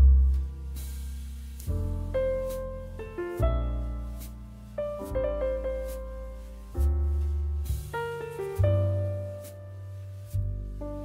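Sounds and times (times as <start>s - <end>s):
low sustained bass chords: 0.0s - 11.0s.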